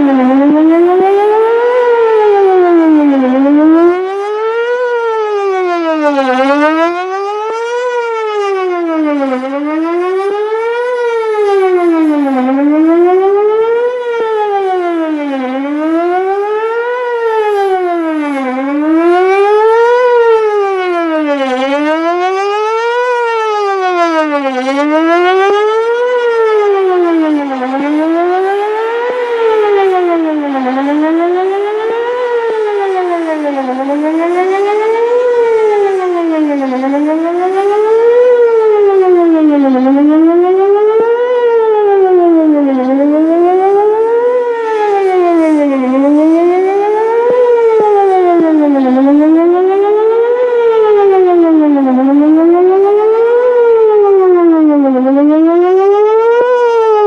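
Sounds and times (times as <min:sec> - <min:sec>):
warning siren fast wail: 0:00.0 - 0:57.0.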